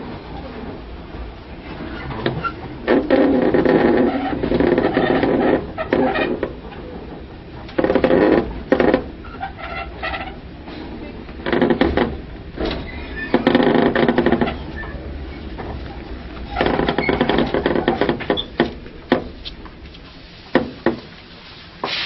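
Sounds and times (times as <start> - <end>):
train clatter: 0.0 - 21.4.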